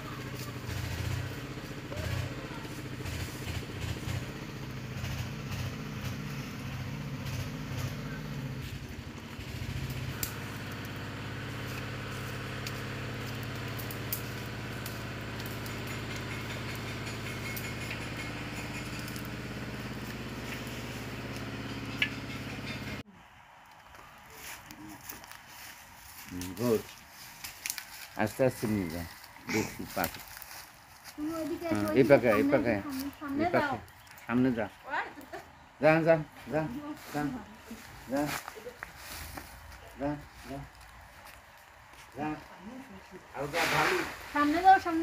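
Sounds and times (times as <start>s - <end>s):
engine humming: 0.0s - 45.0s.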